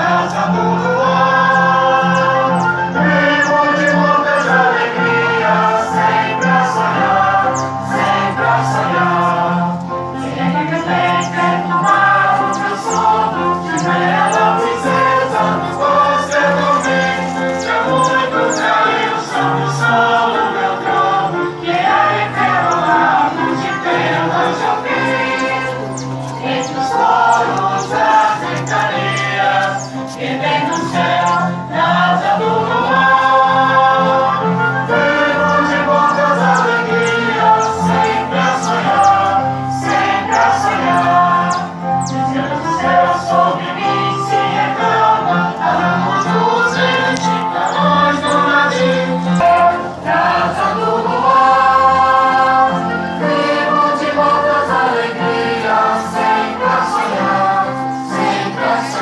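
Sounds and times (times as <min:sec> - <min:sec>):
choir singing long notes: 0:00.0 - 0:59.0.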